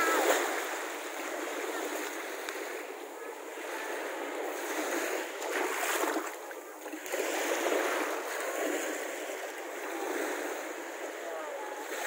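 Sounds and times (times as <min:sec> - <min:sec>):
small waves washing onto shore: 0:00.0 - 0:12.0.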